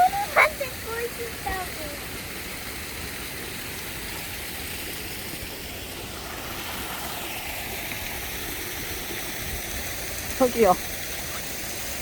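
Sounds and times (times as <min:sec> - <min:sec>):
stream water rushing: 0:00.0 - 0:12.0
water spilling down: 0:00.0 - 0:12.0.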